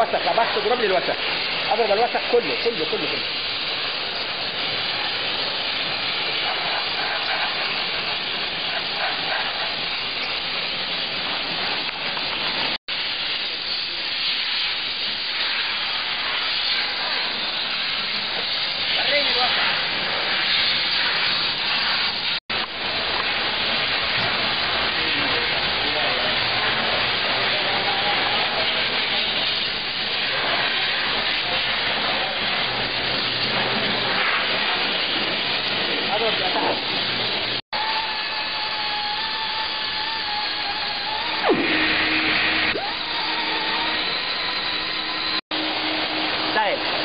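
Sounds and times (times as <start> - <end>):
steam spray gun hissing: 0.0 - 47.0.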